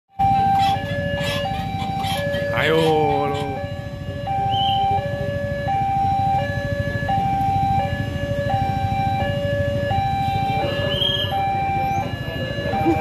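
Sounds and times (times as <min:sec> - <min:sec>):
two-tone crossing alarm: 0:00.1 - 0:13.0
vehicle engines idling: 0:00.2 - 0:13.0.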